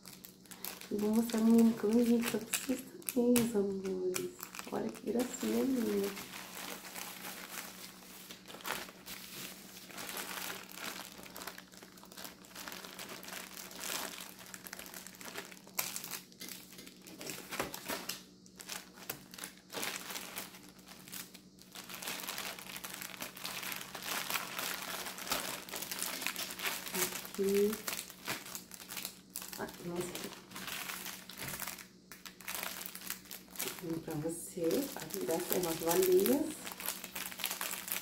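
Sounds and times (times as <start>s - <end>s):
plastic packaging crinkling: 0.0s - 38.0s.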